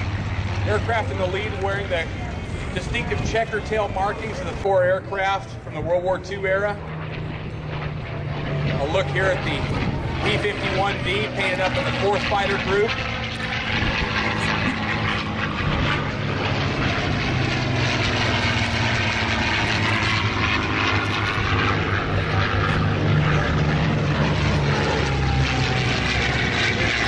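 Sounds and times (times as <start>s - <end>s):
propeller plane engine drone: 0.0s - 27.0s.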